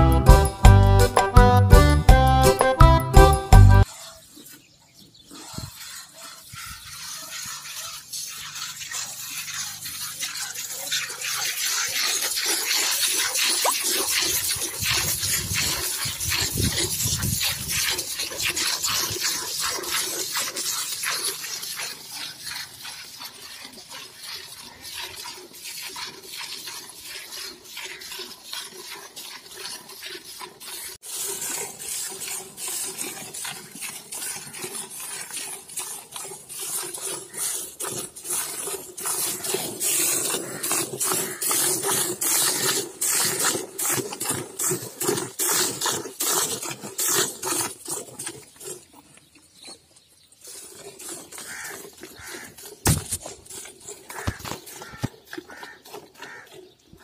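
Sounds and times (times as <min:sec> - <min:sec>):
milk squirting into steel bucket: 0:05.3 - 0:49.6, 0:50.4 - 0:57.0.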